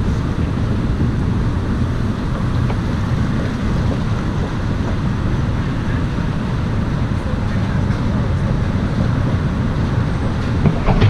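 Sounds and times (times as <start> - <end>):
car traffic drone: 0.0 - 11.0
wind buffeting microphone: 0.0 - 11.0.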